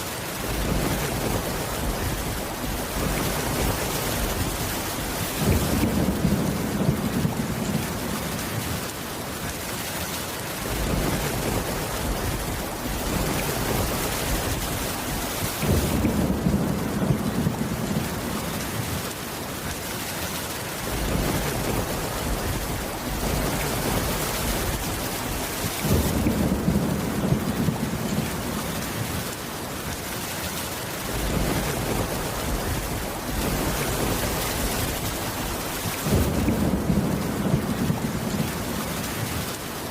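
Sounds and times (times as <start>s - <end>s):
steady rain hissing: 0.0s - 39.9s
thunder rumbling: 0.4s - 8.9s, 10.6s - 19.1s, 20.8s - 29.4s, 31.0s - 39.9s.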